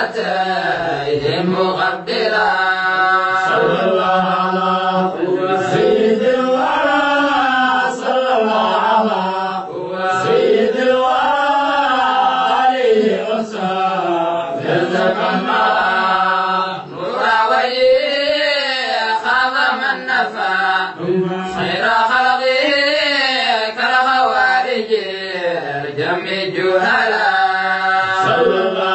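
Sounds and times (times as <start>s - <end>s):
devotional chanting: 0.0s - 28.9s.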